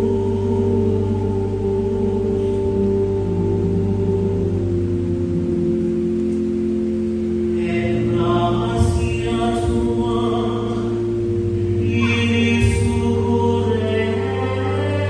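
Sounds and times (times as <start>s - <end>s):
electronic keyboard chords: 0.0s - 15.0s
person singing a hymn: 0.0s - 15.0s.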